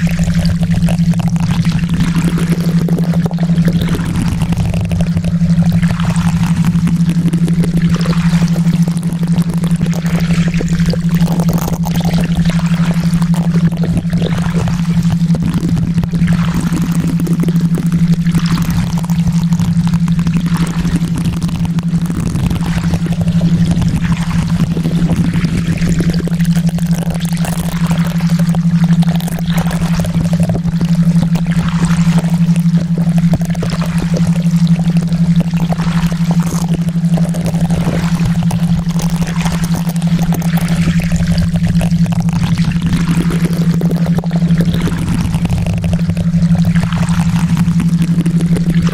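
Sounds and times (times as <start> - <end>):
low hum tone: 0.0 - 48.9
steady water noise: 0.0 - 48.9.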